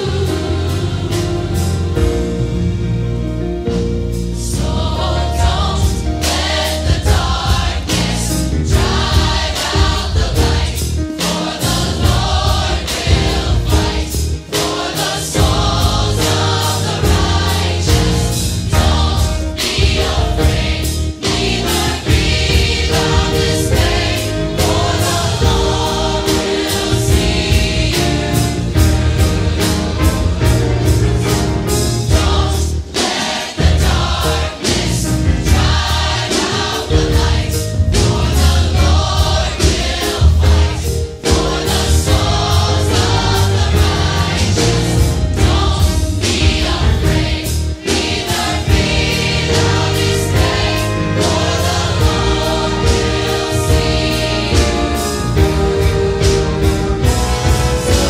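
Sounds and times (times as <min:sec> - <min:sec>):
gospel choir singing: 0:00.0 - 0:03.0, 0:03.7 - 0:58.0
instrumental accompaniment with beat: 0:00.0 - 0:58.0.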